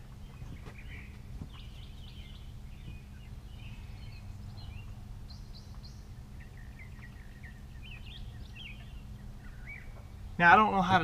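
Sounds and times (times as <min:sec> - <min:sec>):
low background rumble: 0:00.0 - 0:11.0
small birds chirping and singing: 0:00.0 - 0:11.0.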